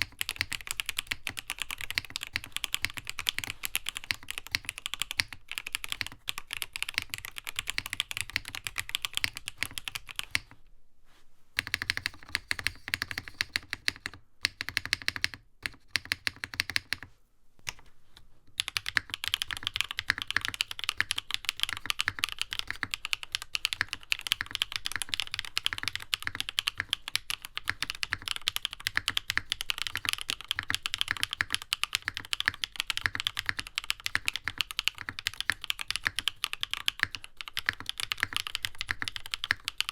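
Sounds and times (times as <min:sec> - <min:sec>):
mechanical keyboard typing: 0:00.0 - 0:10.6, 0:11.6 - 0:17.1, 0:18.6 - 0:39.9.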